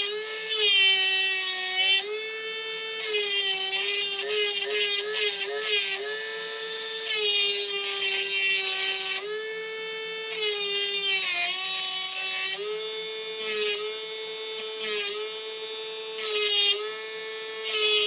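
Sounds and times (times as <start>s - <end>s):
mini grinder motor whining: 0.0s - 18.0s.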